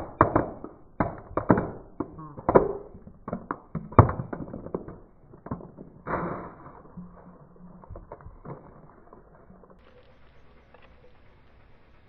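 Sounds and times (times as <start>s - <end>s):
plastic toy cracking under tyre: 0.0s - 11.0s.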